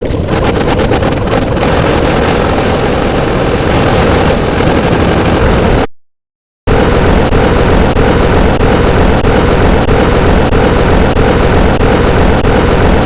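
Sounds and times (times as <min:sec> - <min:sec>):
distorted engine-like rumbling: 0:00.0 - 0:05.9, 0:06.7 - 0:13.0.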